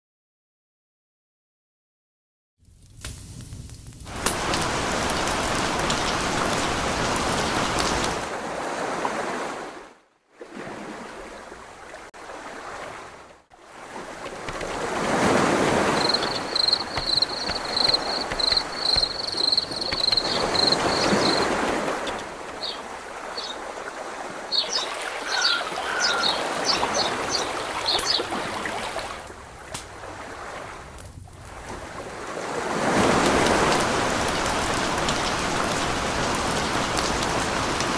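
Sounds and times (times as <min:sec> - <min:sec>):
rushing water: 0:04.0 - 0:37.9.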